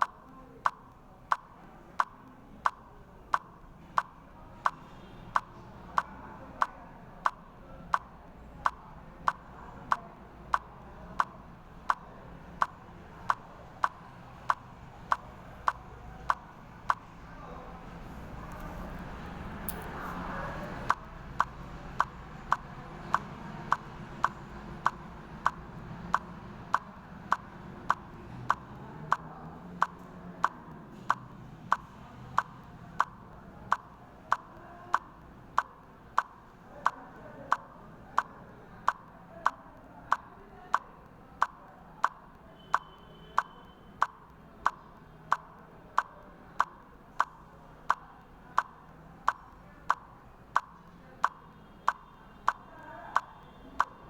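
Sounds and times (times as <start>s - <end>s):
sharp evenly spaced clicks: 0.0s - 17.2s, 17.8s - 54.0s
faint low background noise: 0.0s - 54.0s.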